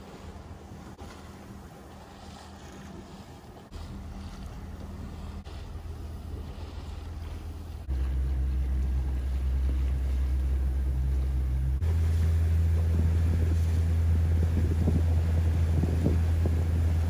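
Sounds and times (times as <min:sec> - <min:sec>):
motorboat engine rumbling: 0:00.0 - 0:17.0.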